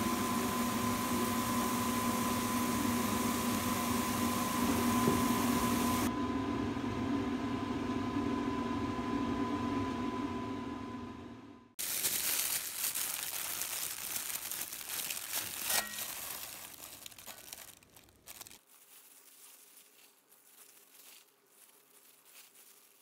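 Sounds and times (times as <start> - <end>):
electric fan motor hum: 0.0 - 19.0.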